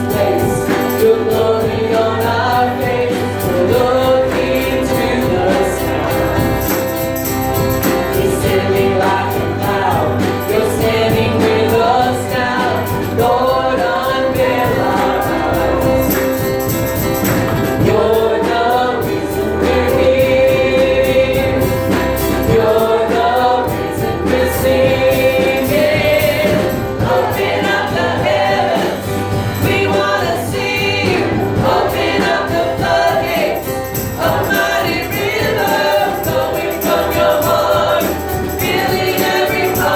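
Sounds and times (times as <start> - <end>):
band accompaniment: 0.0 - 39.9
group of voices singing: 0.0 - 39.9.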